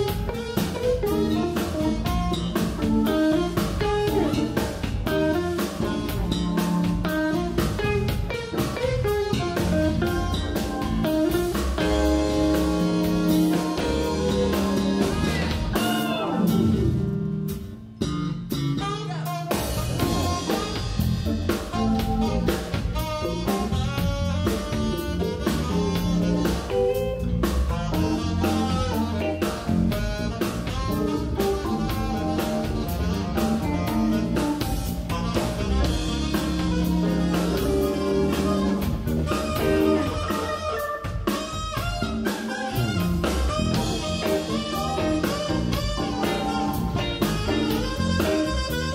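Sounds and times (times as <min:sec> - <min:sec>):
drum kit: 0:00.0 - 0:48.9
electric bass: 0:00.0 - 0:48.9
electric guitar: 0:00.0 - 0:48.9
keyboard: 0:00.0 - 0:48.9.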